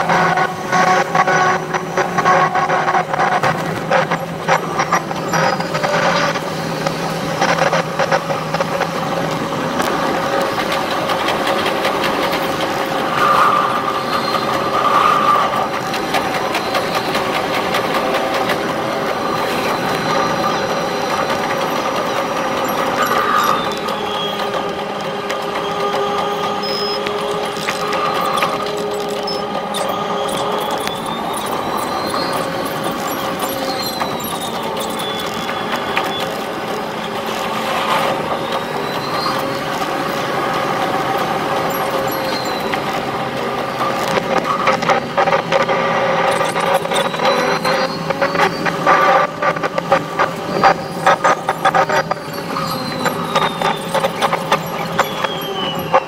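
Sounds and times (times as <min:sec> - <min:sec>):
electric train hum and whine: 0:00.0 - 0:56.0
wheels clicking over track: 0:00.0 - 0:56.0.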